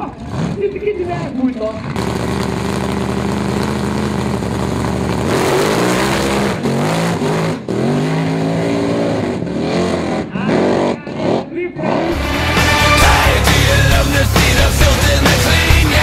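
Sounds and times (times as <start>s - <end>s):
drag car engine revving: 0.0s - 16.0s.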